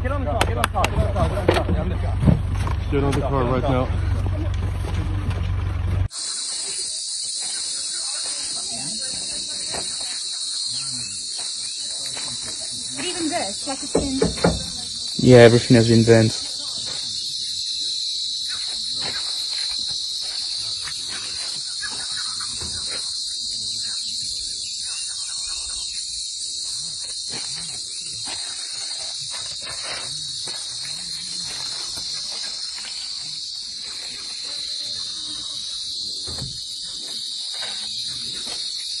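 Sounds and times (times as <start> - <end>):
high-pitched insect chorus: 5.4 - 39.0.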